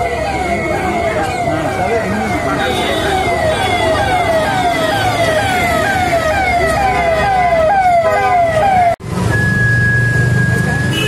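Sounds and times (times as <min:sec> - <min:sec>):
electronic siren wailing: 0:00.0 - 0:10.5
market crowd noise: 0:00.0 - 0:11.0.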